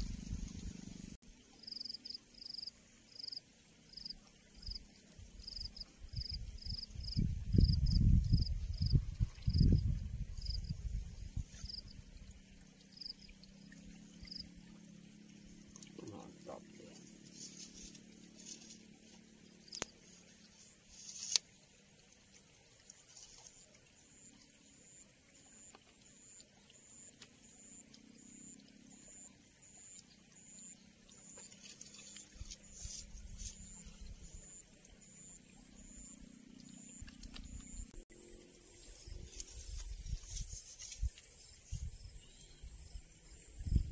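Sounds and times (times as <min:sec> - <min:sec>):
insects chorus: 0:01.2 - 0:43.9.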